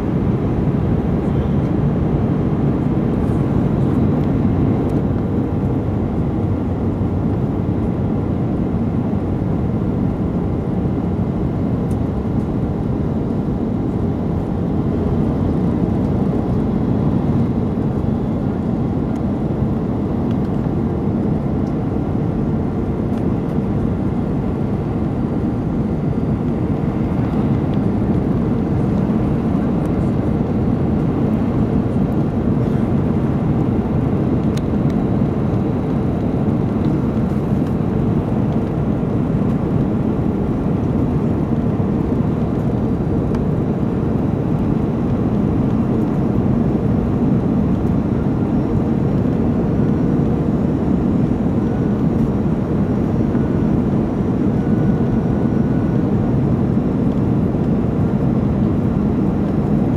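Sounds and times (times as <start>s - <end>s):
jet engine hum: 0.0s - 59.9s.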